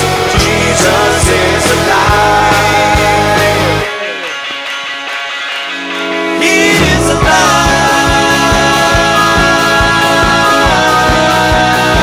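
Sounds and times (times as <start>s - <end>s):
rock band playing instrumental: 0.0s - 12.0s
sustained guitar notes ringing: 0.0s - 12.0s.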